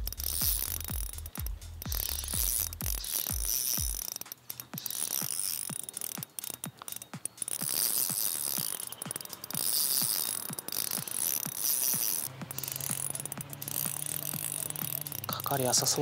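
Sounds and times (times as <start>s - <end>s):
fishing reel clicking: 0.0s - 16.0s.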